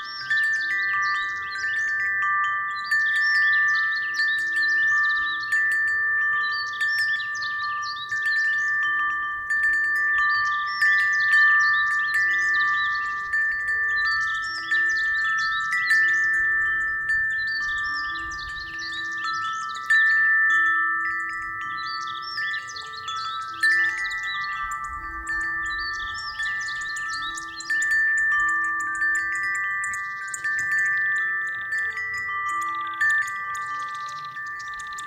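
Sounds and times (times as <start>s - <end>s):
high tinkling chime strikes: 0.0s - 35.0s
wind chimes ringing: 0.0s - 35.0s.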